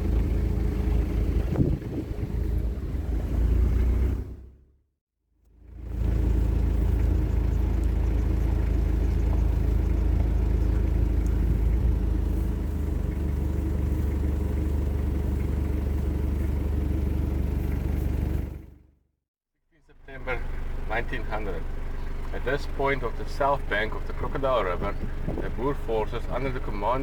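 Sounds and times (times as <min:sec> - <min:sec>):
car engine and road noise: 0:00.0 - 0:04.9, 0:05.5 - 0:19.0, 0:19.9 - 0:27.0.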